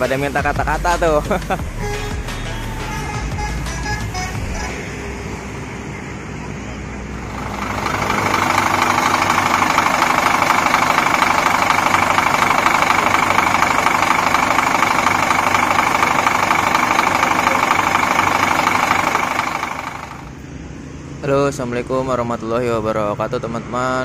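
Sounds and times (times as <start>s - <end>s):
engine running steadily: 3.0s - 23.1s.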